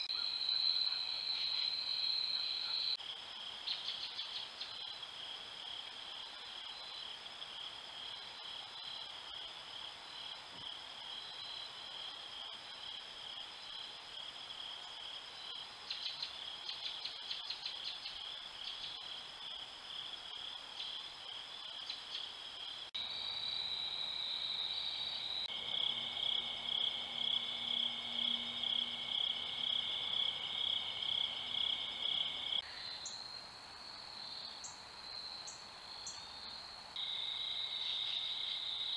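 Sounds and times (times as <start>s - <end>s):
insect chorus trilling: 0.0s - 5.3s, 10.1s - 38.9s.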